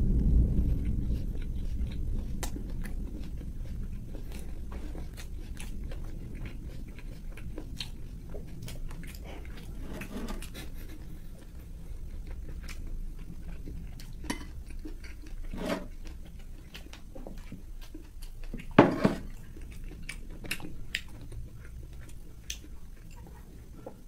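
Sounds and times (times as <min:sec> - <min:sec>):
crunchy chewing: 0:00.1 - 0:24.0.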